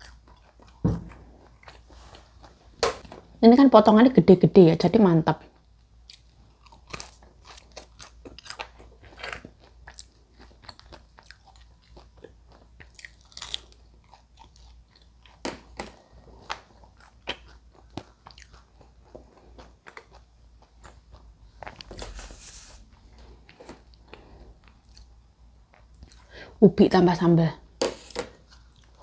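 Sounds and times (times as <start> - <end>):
person chewing crunchy fries: 0.0 - 2.7, 5.8 - 26.3, 28.4 - 29.0.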